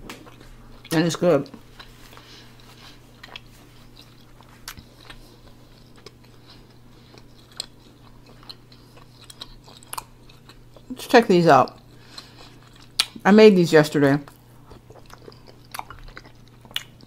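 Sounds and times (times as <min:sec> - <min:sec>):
faint low hum: 0:00.0 - 0:17.0
chewing and mouth noises: 0:00.2 - 0:13.2, 0:14.2 - 0:17.0.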